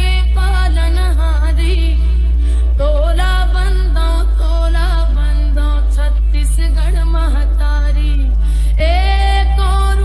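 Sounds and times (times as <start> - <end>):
devotional song over loudspeakers: 0.0 - 10.0.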